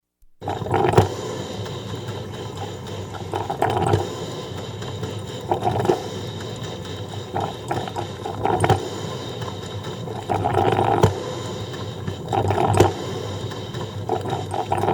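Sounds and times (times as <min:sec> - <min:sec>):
coffee percolator gurgling: 0:00.3 - 0:14.9.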